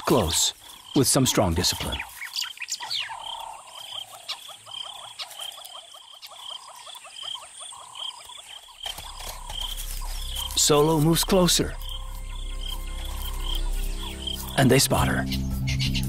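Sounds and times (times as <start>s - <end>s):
high chirps: 1.8s - 16.0s.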